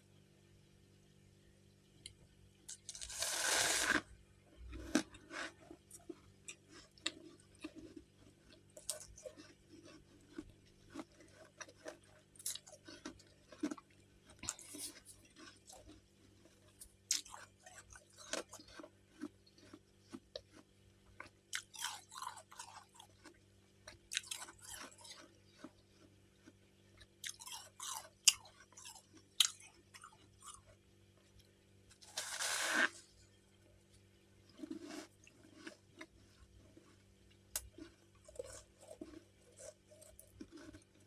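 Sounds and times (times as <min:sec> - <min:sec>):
crunching and chewing ice: 0:02.7 - 0:30.9, 0:34.4 - 0:41.0.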